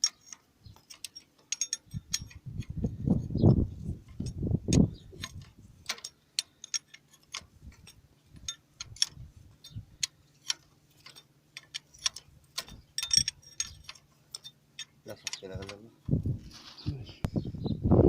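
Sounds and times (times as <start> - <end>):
spanner knocking against metal: 0.0 - 15.9
hand tools clicking on metal: 0.0 - 16.1.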